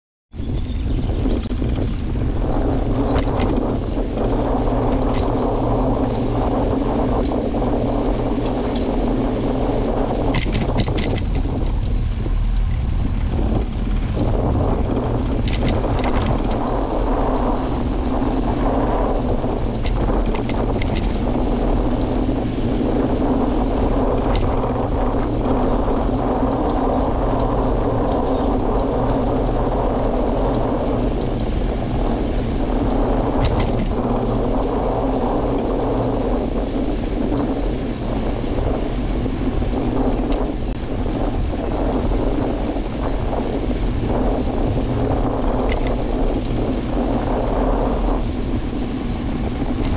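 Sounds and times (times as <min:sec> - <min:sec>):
wind rumbling on microphone: 0:00.3 - 0:49.9.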